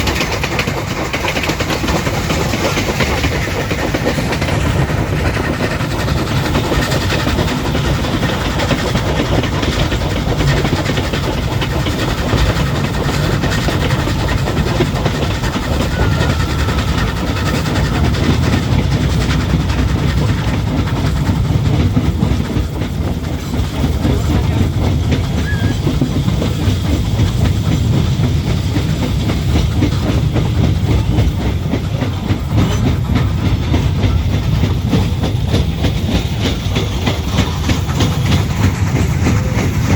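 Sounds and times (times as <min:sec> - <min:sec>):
train rumbling: 0:00.0 - 0:39.9
wheels clattering over rails: 0:00.0 - 0:39.9.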